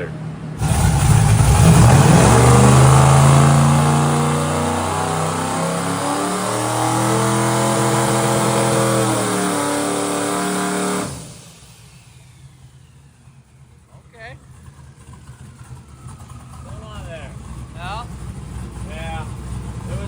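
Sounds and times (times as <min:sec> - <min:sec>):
truck engine at high revs: 0:00.0 - 0:20.0.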